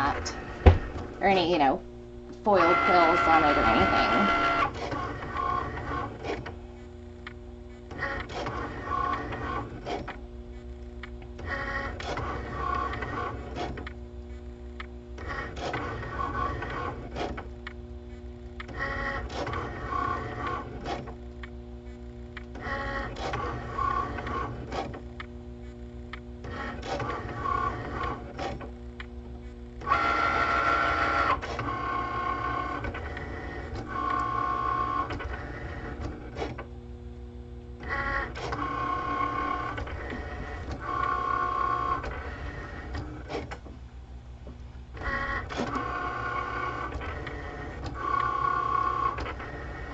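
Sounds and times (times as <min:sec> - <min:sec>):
cutting machine motors whining: 0:00.0 - 0:49.9.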